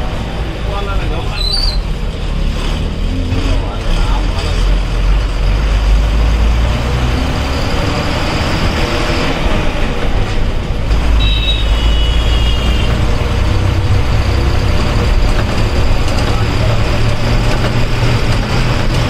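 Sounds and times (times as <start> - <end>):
bus engine running: 0.0 - 19.0
road noise: 0.0 - 19.0.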